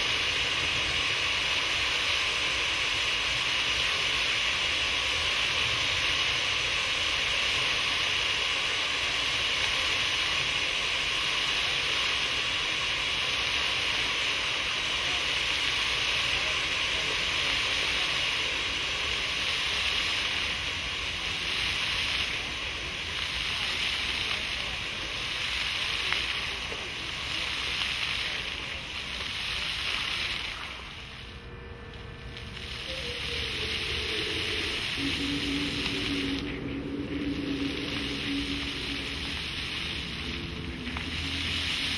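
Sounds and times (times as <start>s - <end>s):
fountain jets splashing: 0.0s - 41.9s.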